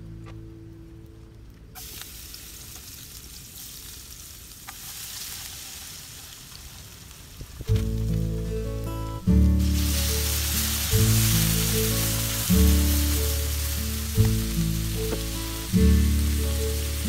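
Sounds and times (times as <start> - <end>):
garlic sizzling in hot oil: 1.8 - 17.0.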